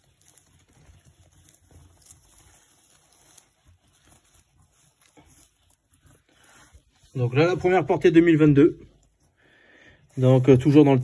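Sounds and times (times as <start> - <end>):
straw rustling and crackling: 0.0 - 11.0.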